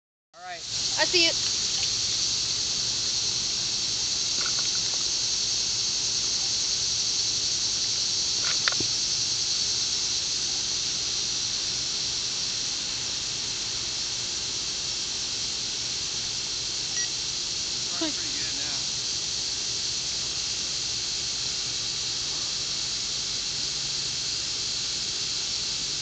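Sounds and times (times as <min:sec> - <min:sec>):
gas hissing from cylinder: 0:00.4 - 0:26.0.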